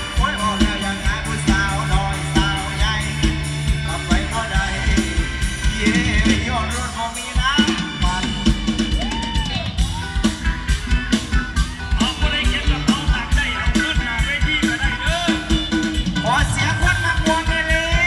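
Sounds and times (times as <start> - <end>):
drum kit fast beat: 0.0 - 18.0.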